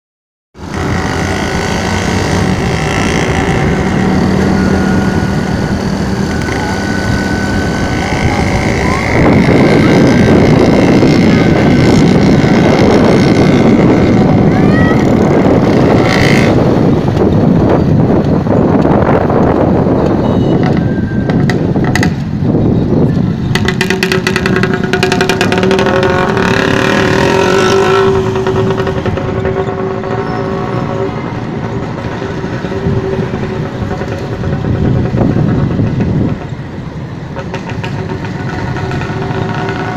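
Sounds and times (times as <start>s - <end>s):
engine humming with high whine: 0.6s - 39.9s
vehicles passing close by: 0.6s - 39.9s.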